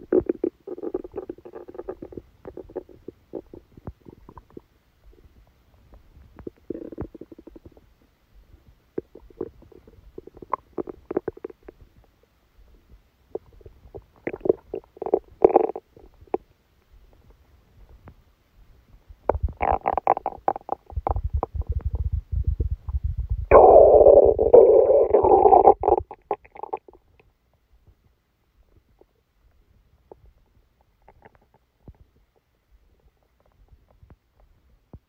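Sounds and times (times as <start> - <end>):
stomach gurgling and rumbling: 0.0 - 18.2, 18.9 - 35.0.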